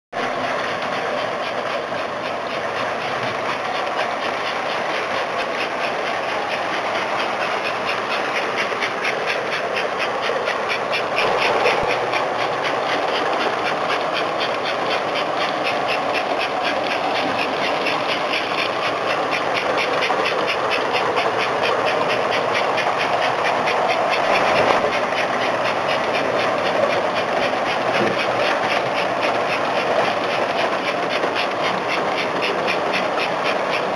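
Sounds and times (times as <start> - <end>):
model train running on track: 0.2 - 33.9.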